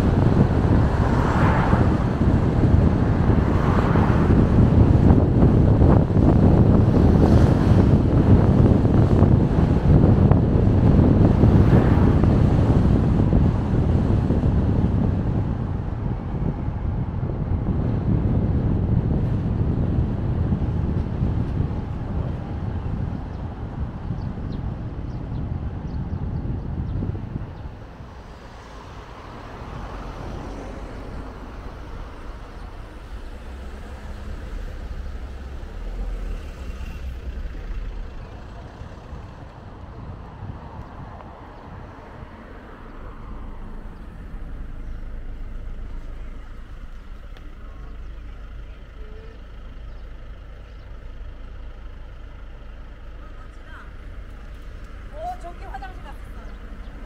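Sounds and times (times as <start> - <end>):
road and wind noise: 0.0 - 57.0
wind buffeting microphone: 0.0 - 57.0.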